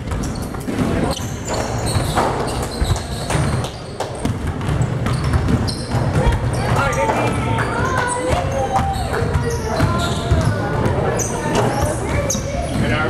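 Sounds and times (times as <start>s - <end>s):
basketballs bouncing on wooden floor: 0.0s - 13.0s.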